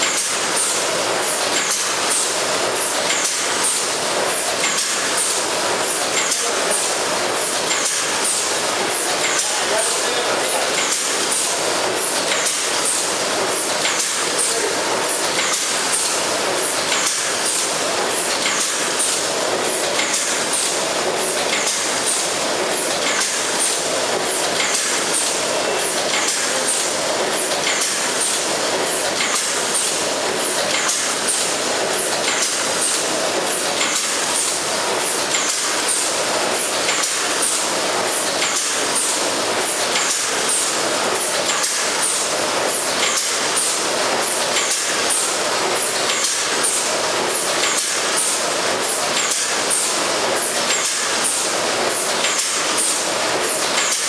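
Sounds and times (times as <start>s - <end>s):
machine clacking: 0.0s - 54.0s
packing machine running: 0.0s - 54.0s.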